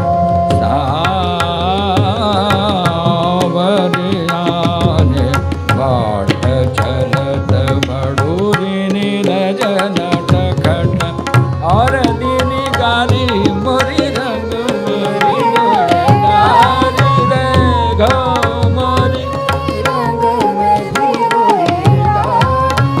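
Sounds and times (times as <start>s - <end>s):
tabla strokes: 0.0s - 23.0s.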